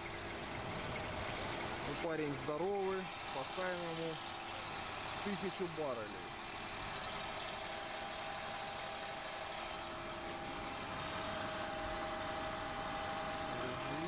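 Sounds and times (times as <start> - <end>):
water jetting pump whine: 0.0 - 14.0.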